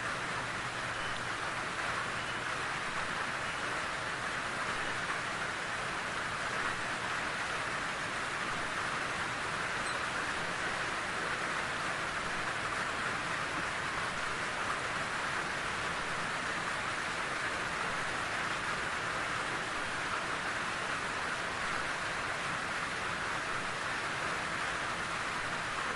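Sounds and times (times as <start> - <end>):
steady rain in forest: 0.0 - 25.9.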